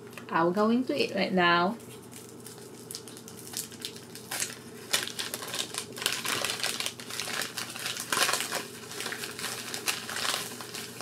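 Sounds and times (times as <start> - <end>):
food wrapper crinkling: 1.8 - 11.0.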